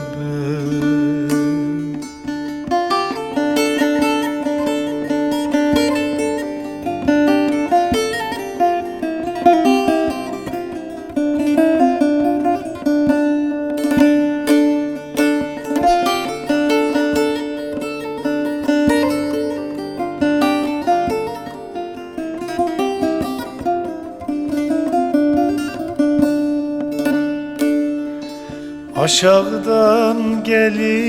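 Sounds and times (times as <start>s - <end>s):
plucked lute melody: 0.0s - 31.0s.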